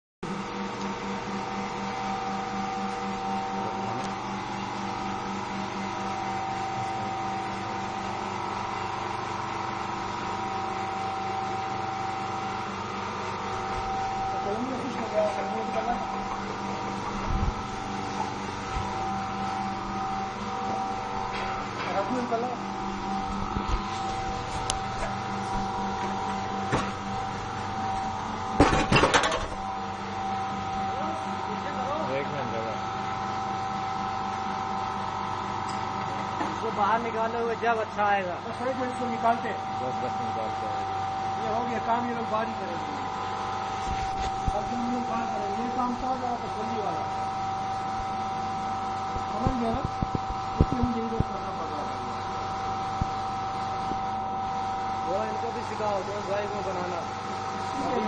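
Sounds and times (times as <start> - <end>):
mechanical hum: 0.2 - 58.0
steady whine: 0.2 - 58.0.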